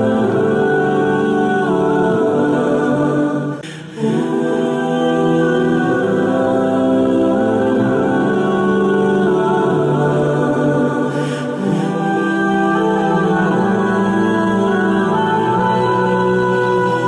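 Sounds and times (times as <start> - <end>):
choir-like voices holding chords: 0.0 - 17.0.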